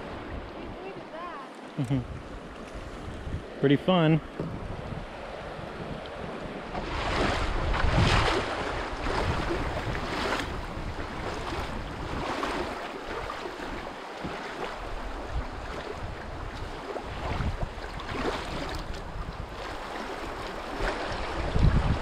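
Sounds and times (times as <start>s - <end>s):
fast river water rushing: 0.0s - 22.0s
wind buffeting microphone: 2.0s - 3.6s, 4.3s - 13.8s, 14.8s - 22.0s.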